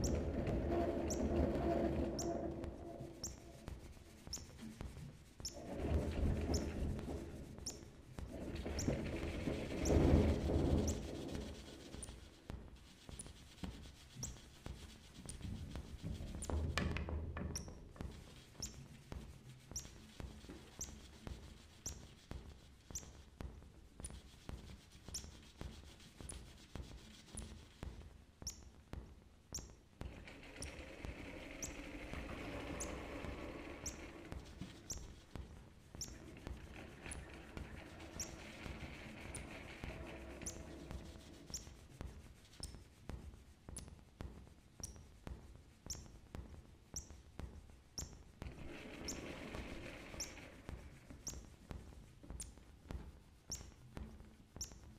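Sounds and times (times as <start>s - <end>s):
faint irregular clicks: 0.0s - 54.9s.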